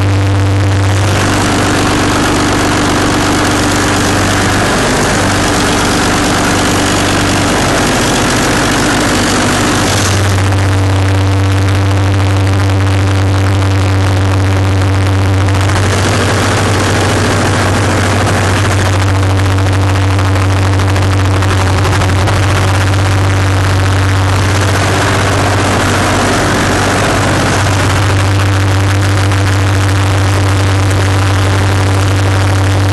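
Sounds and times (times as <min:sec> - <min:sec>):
dispenser machine humming: 0:00.0 - 0:32.9
rushing noise: 0:00.6 - 0:11.1, 0:15.4 - 0:32.0.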